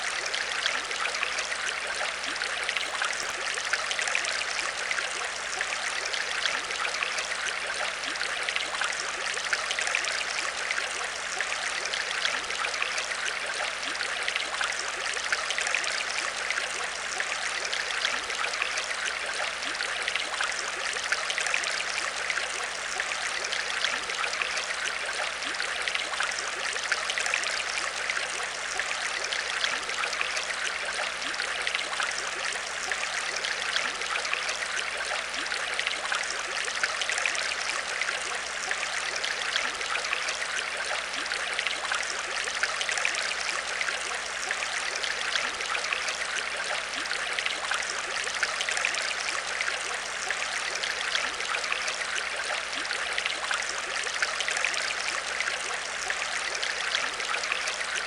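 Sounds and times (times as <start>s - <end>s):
aquarium water trickling and splashing: 0.0s - 58.0s.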